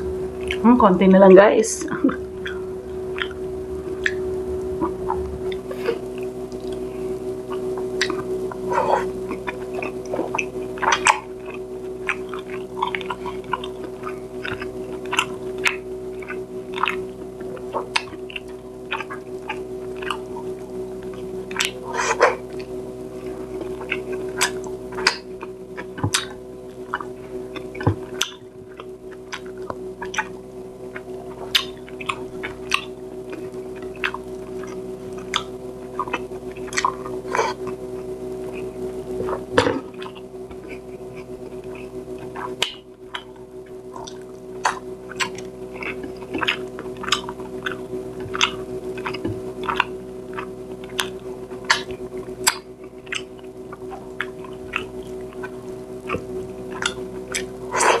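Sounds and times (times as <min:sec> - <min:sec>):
steady low hum: 0:00.0 - 0:58.0
wet chewing and mouth-smacking: 0:00.4 - 0:00.6, 0:02.4 - 0:04.2, 0:07.5 - 0:58.0.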